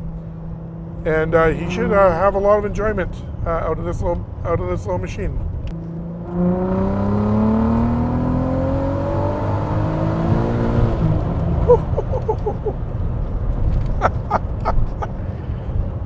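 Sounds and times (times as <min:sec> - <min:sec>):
car engine accelerating: 0:00.1 - 0:03.4, 0:05.6 - 0:15.8.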